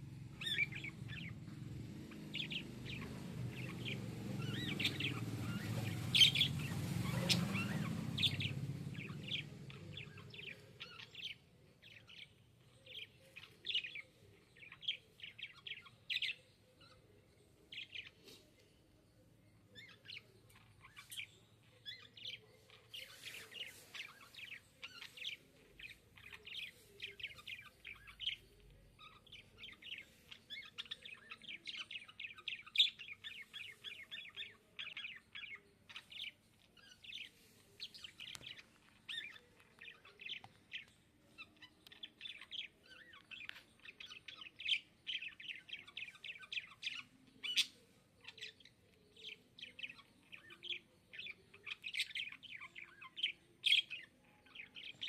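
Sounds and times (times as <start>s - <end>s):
budgerigars chirping and warbling: 0.0s - 17.1s, 17.7s - 18.4s, 19.7s - 55.0s
sharp bird calls: 0.0s - 17.1s, 19.7s - 55.0s.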